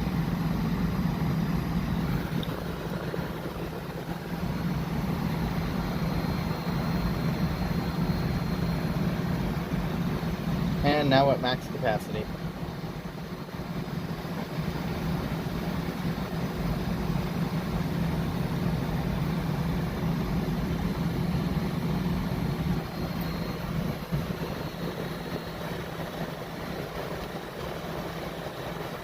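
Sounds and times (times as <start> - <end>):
air conditioner fan blowing: 0.0 - 29.0
compressor hum: 0.0 - 29.0.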